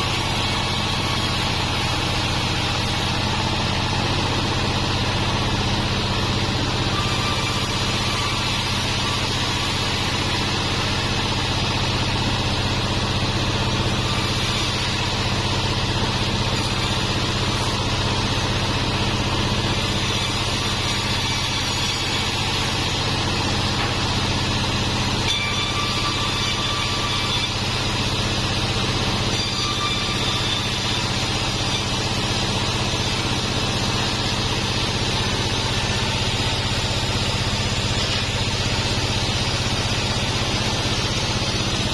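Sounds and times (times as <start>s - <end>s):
bandsaw machine running: 0.0s - 41.9s.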